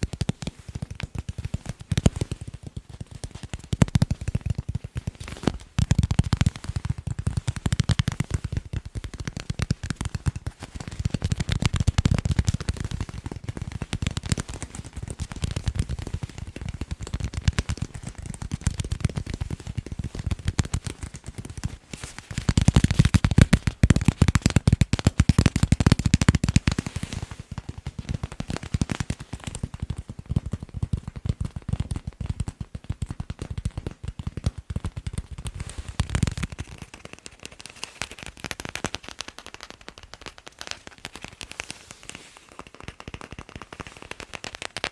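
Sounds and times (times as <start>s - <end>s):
rapid tapping on balls: 0.0s - 44.9s.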